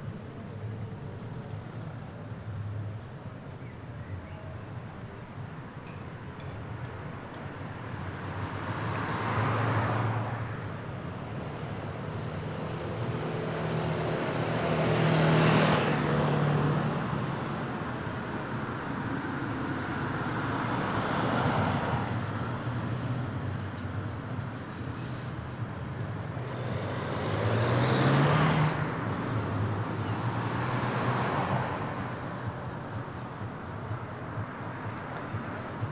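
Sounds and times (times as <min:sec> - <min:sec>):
background traffic: 0:00.0 - 0:35.9
cars passing by: 0:00.0 - 0:35.9.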